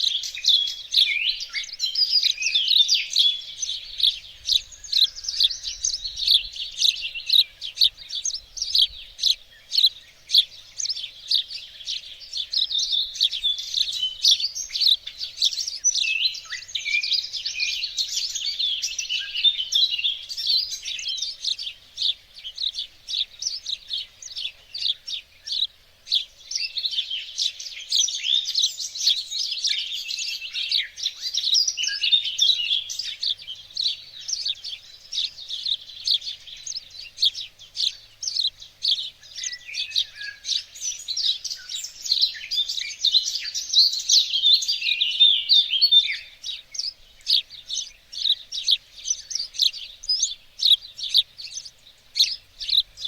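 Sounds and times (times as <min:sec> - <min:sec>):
songbirds singing and chirping: 0:00.0 - 0:53.0.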